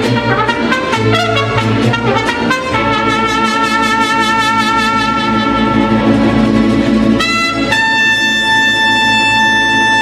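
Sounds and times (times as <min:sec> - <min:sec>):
mariachi band playing: 0:00.0 - 0:10.0
trumpets long held note: 0:00.4 - 0:06.3, 0:07.2 - 0:10.0.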